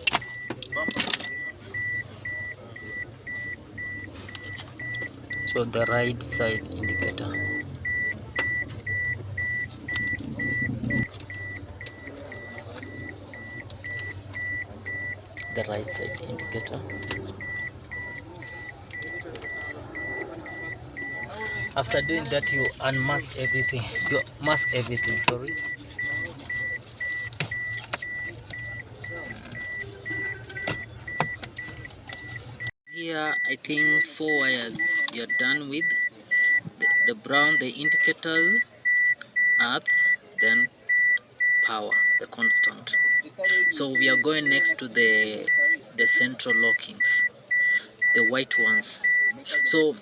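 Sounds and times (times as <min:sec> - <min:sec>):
hazard light beeps: 0:00.0 - 0:32.7, 0:33.3 - 0:44.8, 0:45.4 - 0:49.9.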